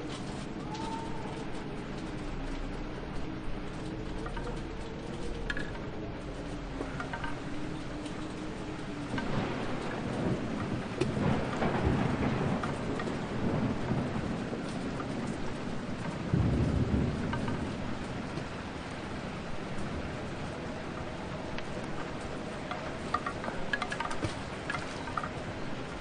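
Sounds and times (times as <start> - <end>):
thunder crack: 0.0 - 23.6
rumbling thunder: 0.0 - 26.0
steady rain: 0.0 - 26.0.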